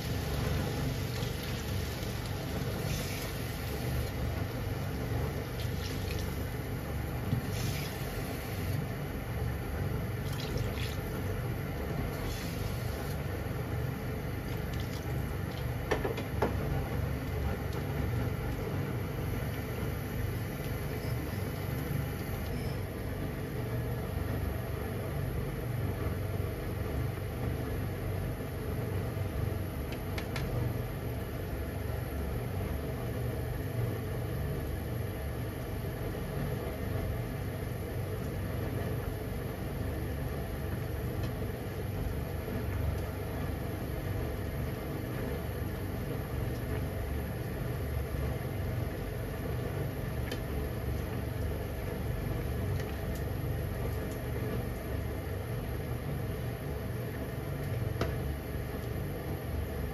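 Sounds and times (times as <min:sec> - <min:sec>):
broth boiling on gas stove: 0:00.0 - 0:59.9.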